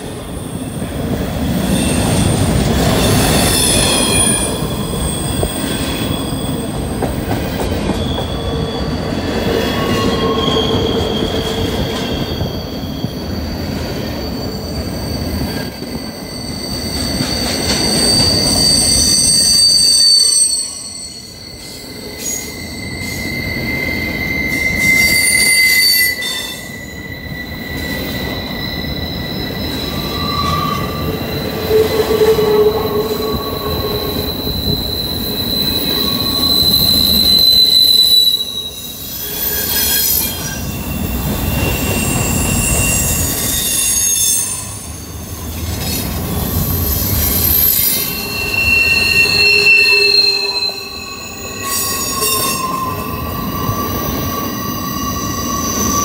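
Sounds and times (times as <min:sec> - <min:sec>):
train wheels squealing on rails: 0:00.0 - 0:56.0.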